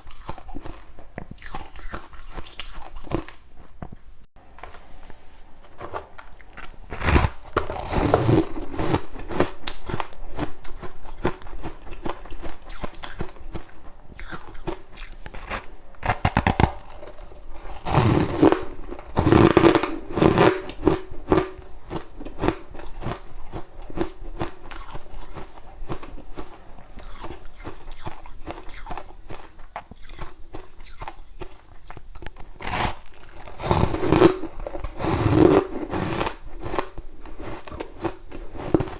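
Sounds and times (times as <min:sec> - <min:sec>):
frost being bitten and chewed: 0:00.0 - 0:03.4, 0:06.2 - 0:38.9.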